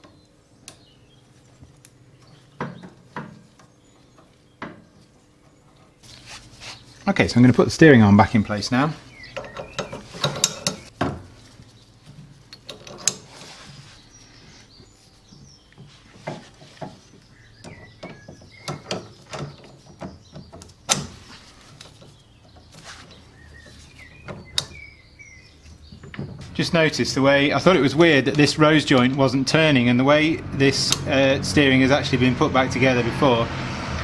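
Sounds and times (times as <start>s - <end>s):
birds chirping: 0.0s - 33.6s.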